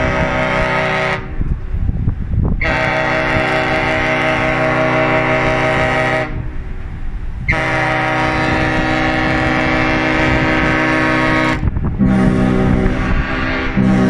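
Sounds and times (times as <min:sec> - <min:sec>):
ship horn long blasts: 0:00.0 - 0:01.7, 0:02.4 - 0:14.0.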